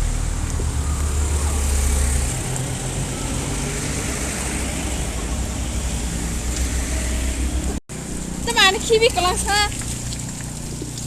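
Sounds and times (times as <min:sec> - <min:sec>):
road noise hiss: 0:00.0 - 0:11.0
vehicle engine rumble: 0:00.0 - 0:11.0.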